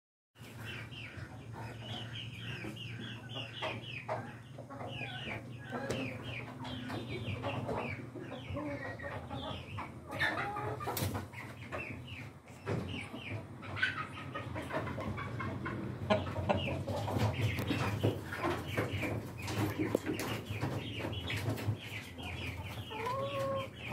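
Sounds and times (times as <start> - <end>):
chickens clucking: 0.4 - 23.9.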